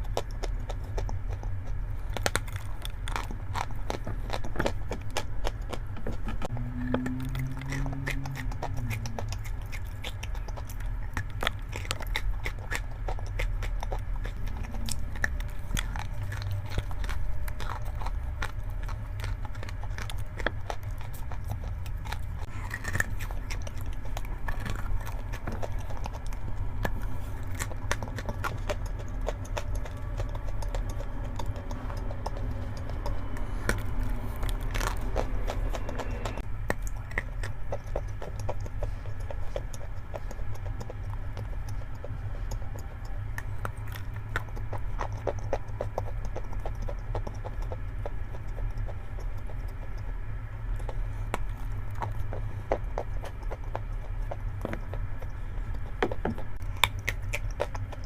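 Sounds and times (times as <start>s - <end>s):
chewing crunchy chalk: 0.0s - 58.0s
steady low hum: 0.0s - 58.0s.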